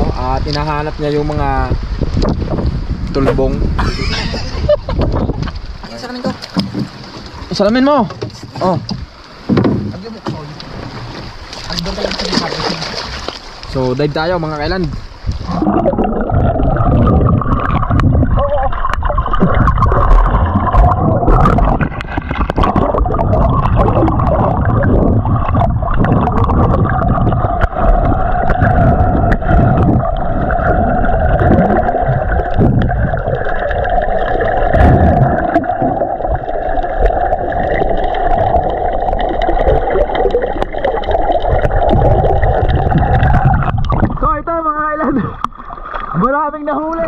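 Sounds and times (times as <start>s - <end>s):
underwater rumble and gurgling: 0.0s - 47.0s.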